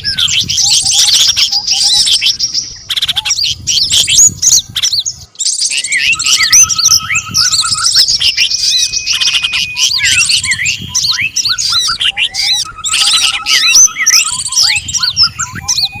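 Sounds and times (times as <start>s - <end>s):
bird trill: 0.0s - 16.0s
songbirds chirping and whistling: 0.0s - 16.0s.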